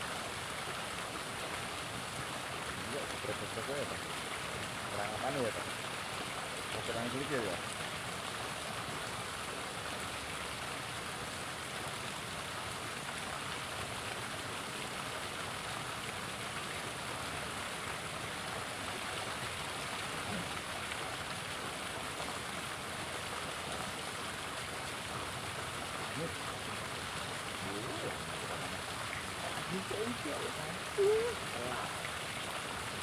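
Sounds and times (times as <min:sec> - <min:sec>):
river water rushing: 0:03.9 - 0:33.0.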